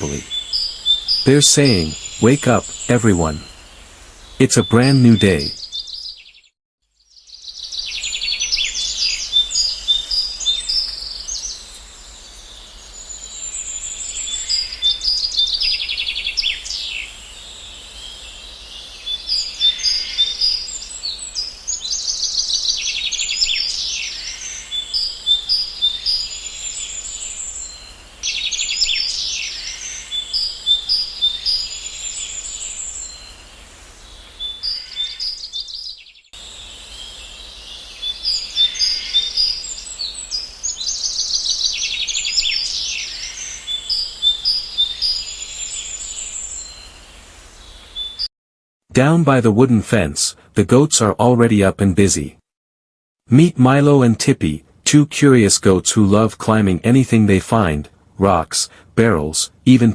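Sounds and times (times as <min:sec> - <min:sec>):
small birds chirping and singing: 0:00.0 - 0:48.3.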